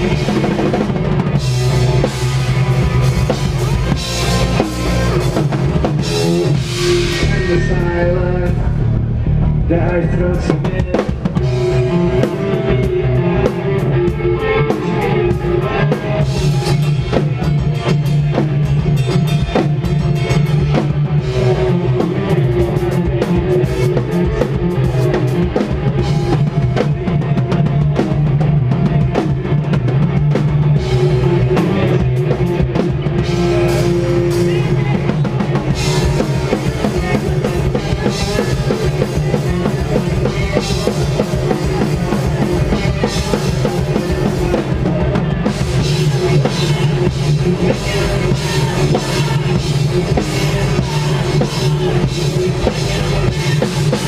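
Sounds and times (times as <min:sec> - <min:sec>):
bass guitar: 0:00.0 - 0:54.0
distorted guitars: 0:00.0 - 0:54.0.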